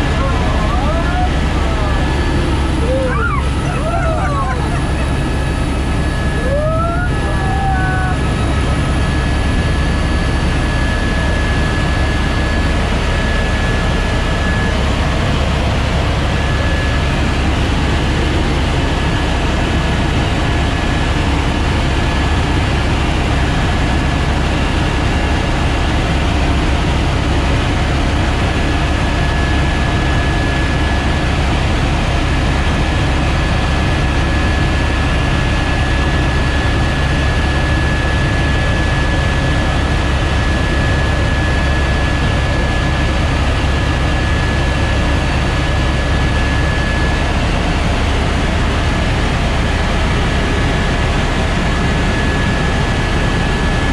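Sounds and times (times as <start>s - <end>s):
helicopter drone in flight: 0.0s - 53.9s.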